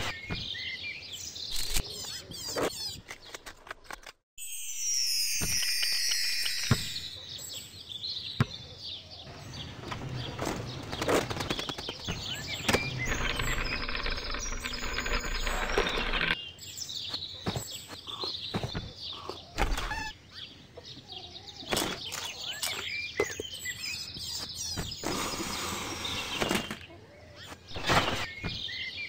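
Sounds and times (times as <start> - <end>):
birds chirping: 0.0 - 3.5, 6.6 - 29.0.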